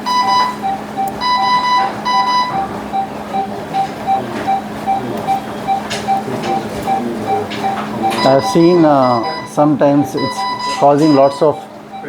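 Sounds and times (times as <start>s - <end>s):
higher alarm tone: 0.0s - 12.0s
monitor beeping: 0.0s - 12.0s
steady low hum: 0.0s - 12.0s.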